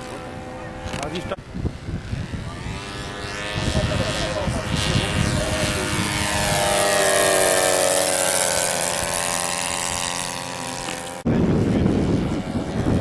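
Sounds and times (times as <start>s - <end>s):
model plane propeller engines: 0.0s - 13.0s.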